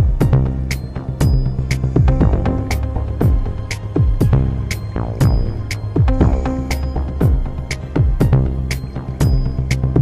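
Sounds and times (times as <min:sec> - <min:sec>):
deep kick drum: 0:00.0 - 0:10.0
sustained bass and pad: 0:00.0 - 0:10.0.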